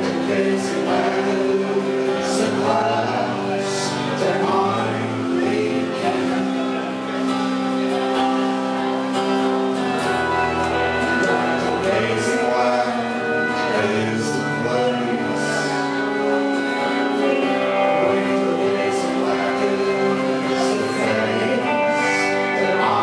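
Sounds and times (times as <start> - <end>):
man singing: 0.0 - 8.0, 11.0 - 23.0
acoustic guitar: 0.0 - 23.0
held keyboard notes: 0.0 - 23.0.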